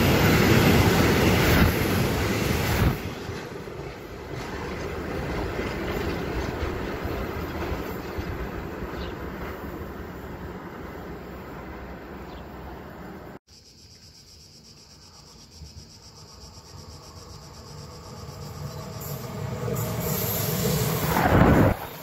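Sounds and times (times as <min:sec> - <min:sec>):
electric train approaching: 0:00.0 - 0:13.4, 0:16.1 - 0:22.0.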